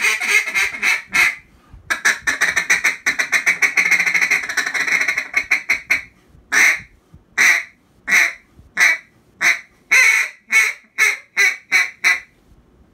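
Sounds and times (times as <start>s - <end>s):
duck call quacks: 0.0s - 12.3s.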